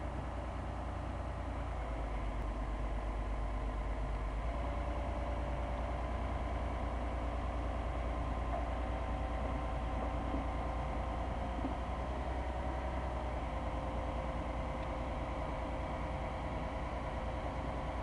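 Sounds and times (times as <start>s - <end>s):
excavator diesel engine idling: 0.0s - 18.0s.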